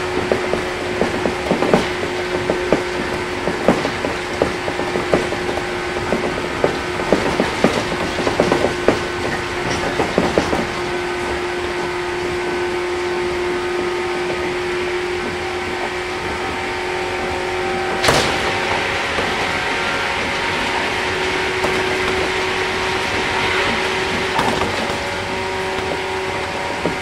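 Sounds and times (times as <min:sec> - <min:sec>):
train car rattling: 0:00.0 - 0:27.0
train running hum: 0:00.0 - 0:27.0
wheels clicking on track: 0:00.0 - 0:27.0.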